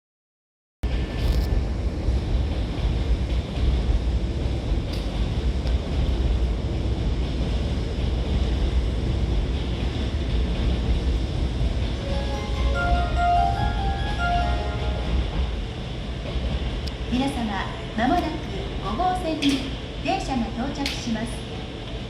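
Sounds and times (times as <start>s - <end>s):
railway platform rumble: 0.8s - 22.0s.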